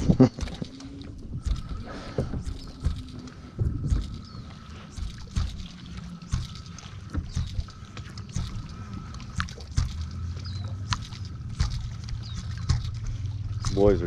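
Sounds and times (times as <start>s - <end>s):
knocks and clicks: 0.0s - 4.2s, 4.9s - 13.9s
low engine rumble: 0.0s - 14.0s
water slapping: 0.0s - 14.0s.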